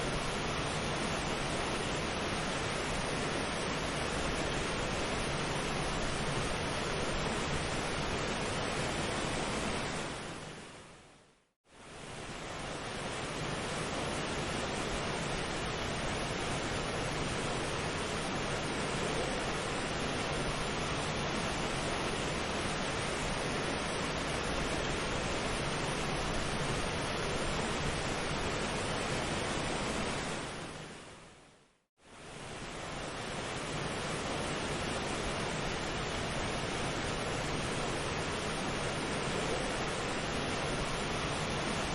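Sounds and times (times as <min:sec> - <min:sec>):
steady rushing surf: 0:00.0 - 0:41.9.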